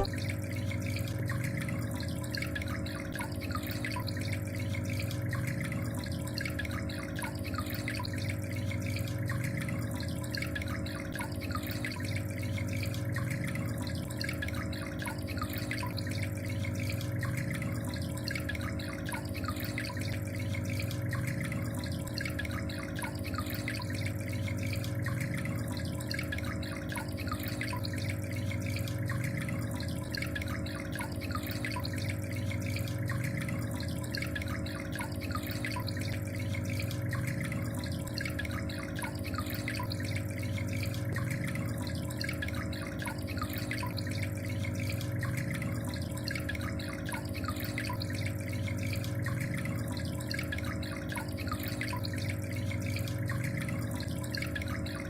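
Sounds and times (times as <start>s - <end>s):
steady low hum: 0.0s - 55.0s
water trickling and splashing: 0.0s - 55.0s.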